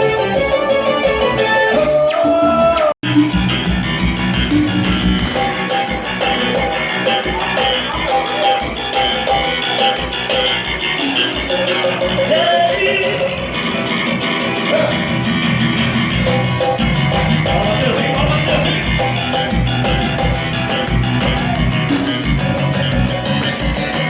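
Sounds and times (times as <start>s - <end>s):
dance band instrumental music: 0.0s - 24.0s
pulsing bass beat: 2.4s - 24.0s.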